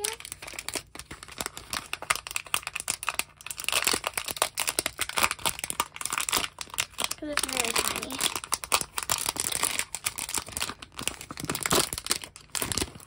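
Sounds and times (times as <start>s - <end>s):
plastic shrink wrap crinkling: 0.0s - 13.0s.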